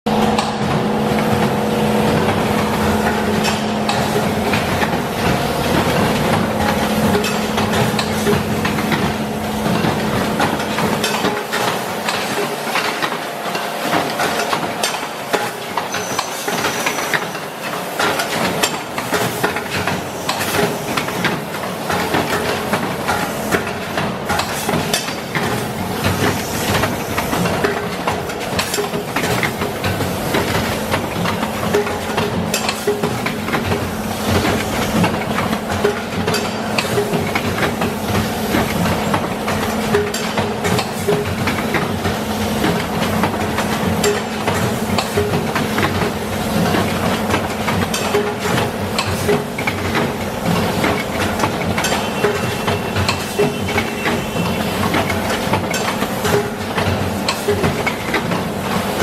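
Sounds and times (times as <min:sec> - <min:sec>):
packing machine clattering: 0:00.2 - 0:59.0.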